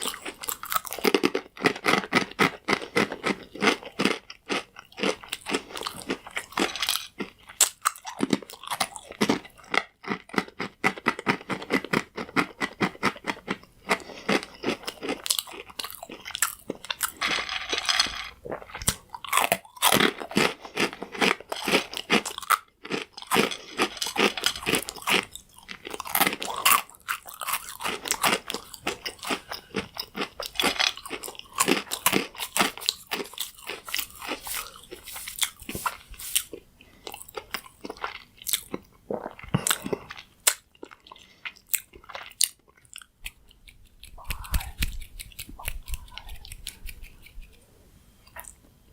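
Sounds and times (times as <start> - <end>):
chewing crunchy croutons: 0.0 - 47.6.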